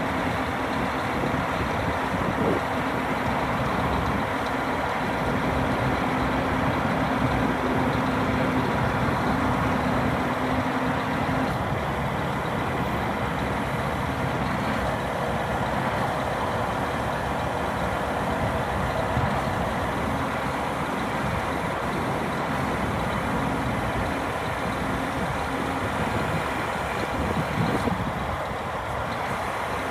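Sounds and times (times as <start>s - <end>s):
truck diesel engine running: 0.0s - 29.9s.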